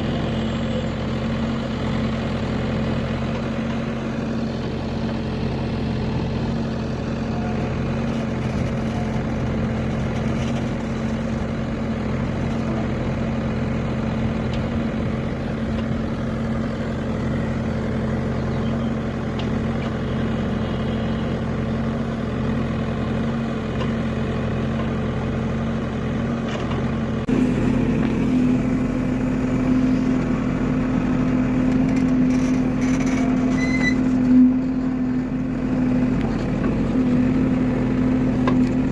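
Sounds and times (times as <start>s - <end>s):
heavy vehicle engine idling: 0.0s - 38.9s.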